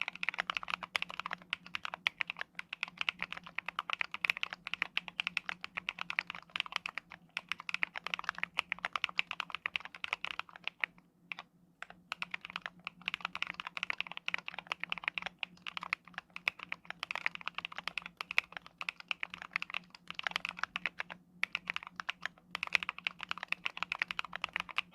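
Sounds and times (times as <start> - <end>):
fast typing on mechanical keyboard: 0.0 - 24.9.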